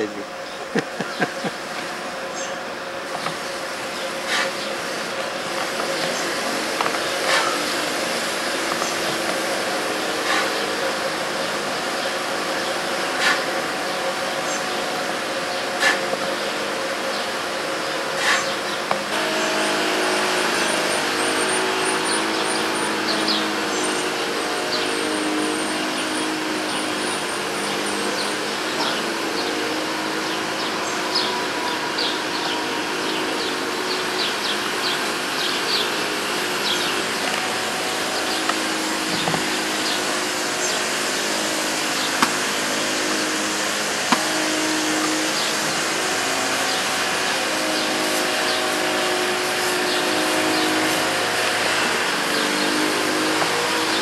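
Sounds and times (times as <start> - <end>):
small birds chirping: 0.0 - 51.1.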